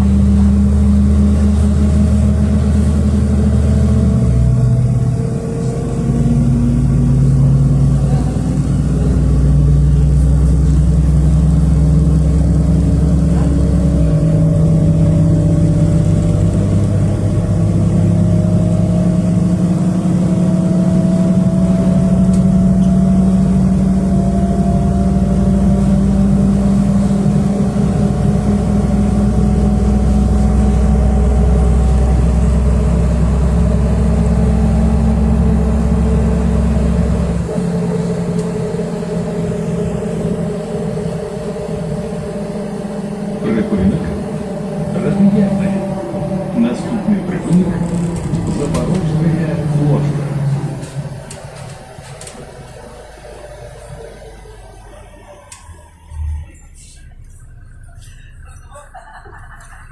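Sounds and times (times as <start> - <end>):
bus engine running: 0.0 - 59.9
drivetrain whine: 0.0 - 59.9.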